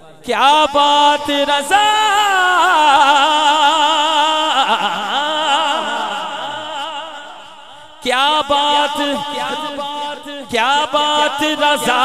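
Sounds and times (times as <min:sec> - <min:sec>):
person chanting with heavy echo: 0:00.0 - 0:12.0.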